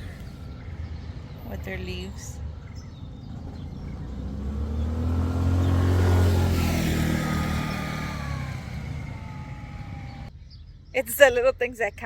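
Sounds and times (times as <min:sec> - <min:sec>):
vehicle driving past: 0:00.0 - 0:10.3.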